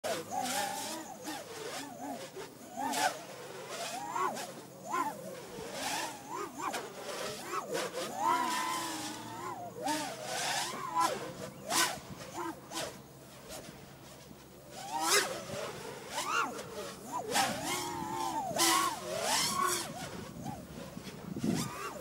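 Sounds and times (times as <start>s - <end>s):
quadcopter motors buzzing: 0.0s - 22.0s.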